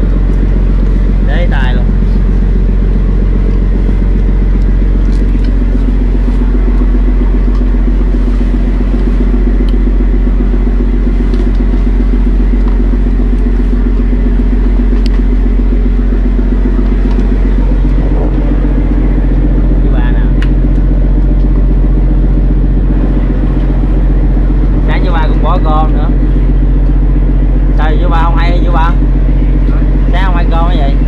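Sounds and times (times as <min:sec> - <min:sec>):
boat engine low rumble: 0:00.0 - 0:31.0.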